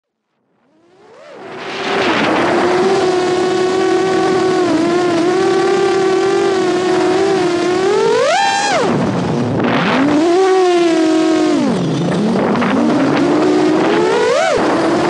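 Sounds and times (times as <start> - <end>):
drone motors whining: 0.7 - 15.0.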